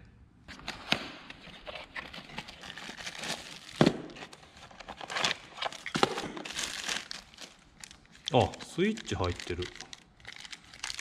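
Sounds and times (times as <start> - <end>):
plastic bags crinkling: 2.0 - 11.0.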